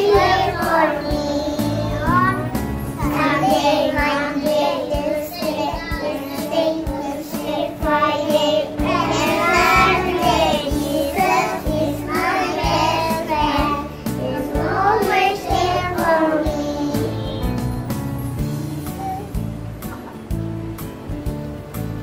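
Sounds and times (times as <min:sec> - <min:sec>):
children singing: 0:00.0 - 0:17.7
instrumental accompaniment with beat: 0:00.0 - 0:22.0.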